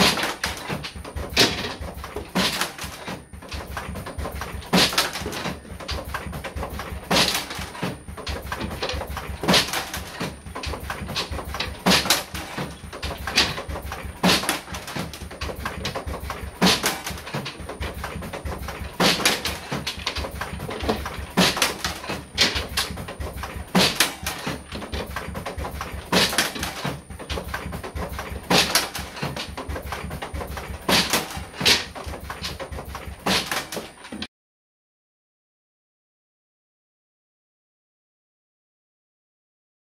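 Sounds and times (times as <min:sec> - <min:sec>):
steady machine hum: 0:00.0 - 0:34.2
machine banging: 0:00.0 - 0:34.3
machine clacks: 0:00.0 - 0:34.3.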